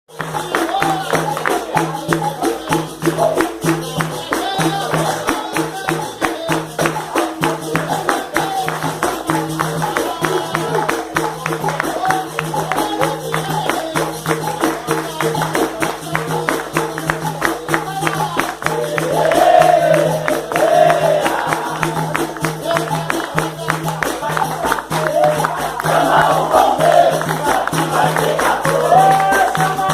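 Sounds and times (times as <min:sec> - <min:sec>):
people singing: 0:00.1 - 0:29.9
tambourine-like percussion: 0:00.1 - 0:29.9.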